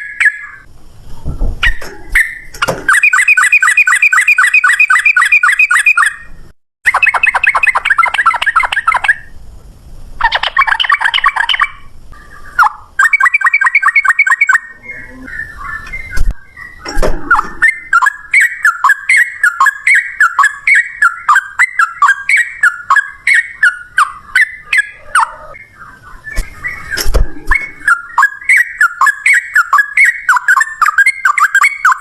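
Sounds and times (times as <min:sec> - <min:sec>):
bird singing rolling trills: 0:00.0 - 0:09.4, 0:10.2 - 0:32.0.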